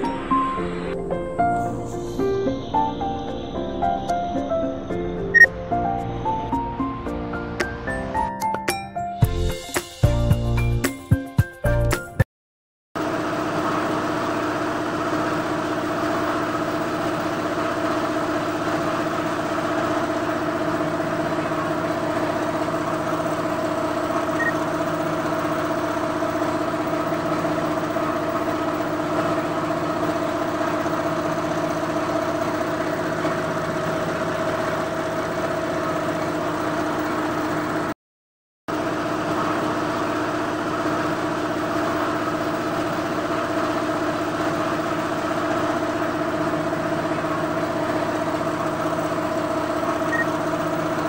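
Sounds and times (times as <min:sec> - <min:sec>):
machinery humming: 0:00.0 - 0:08.4, 0:13.0 - 0:37.9, 0:38.7 - 0:51.0.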